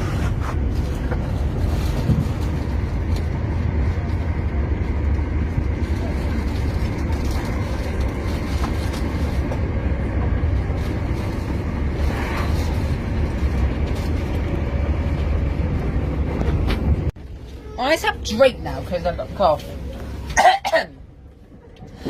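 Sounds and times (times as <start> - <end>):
moving train rumble: 0.0 - 22.0.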